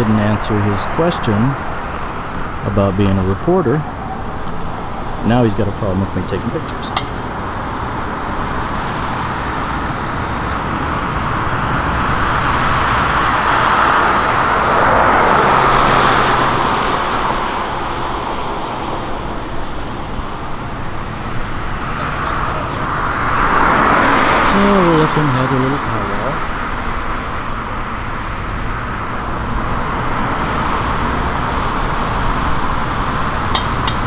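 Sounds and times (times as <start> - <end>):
cars passing close by: 0.0 - 34.0.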